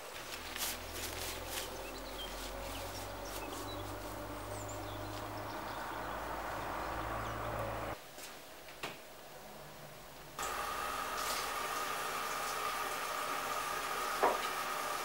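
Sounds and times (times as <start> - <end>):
low motor hum: 0.0 - 8.0, 10.4 - 15.0.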